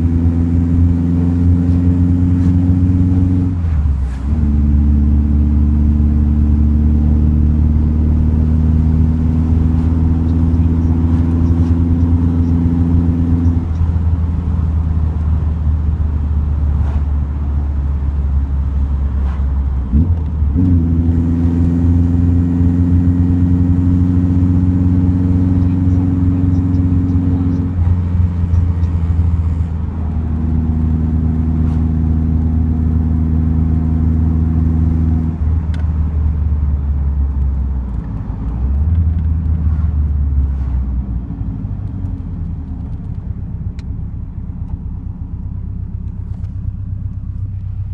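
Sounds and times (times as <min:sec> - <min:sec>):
car exhaust drone: 0:00.0 - 0:47.9
deep engine rumble: 0:00.0 - 0:47.9.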